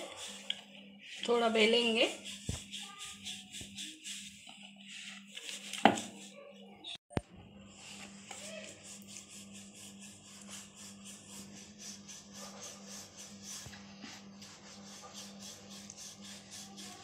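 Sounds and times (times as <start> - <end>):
rolling pin rubbing on dough: 0.0 - 6.8, 7.8 - 17.0.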